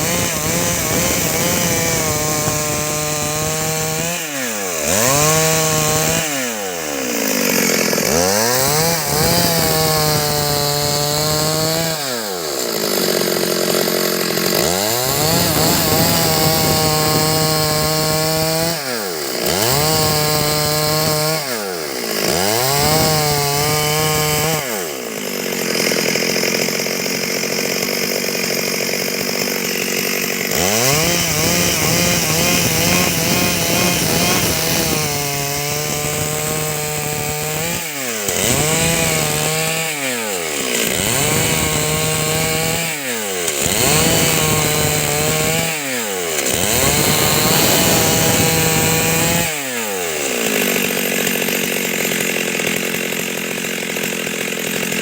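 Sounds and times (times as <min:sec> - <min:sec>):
chainsaw cutting wood: 0:00.0 - 0:55.0
chainsaw revving and idling: 0:00.0 - 0:55.0.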